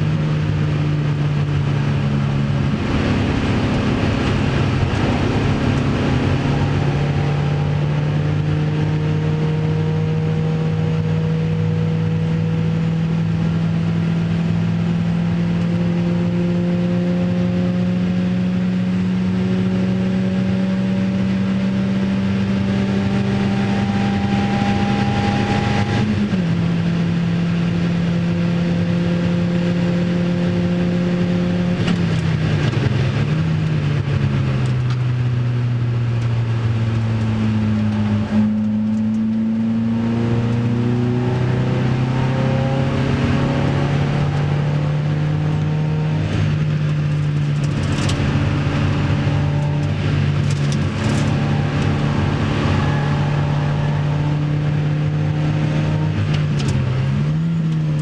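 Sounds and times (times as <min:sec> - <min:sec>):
car engine at full speed: 0:00.0 - 0:58.0
road noise: 0:00.0 - 0:58.0
wind noise: 0:00.0 - 0:58.0.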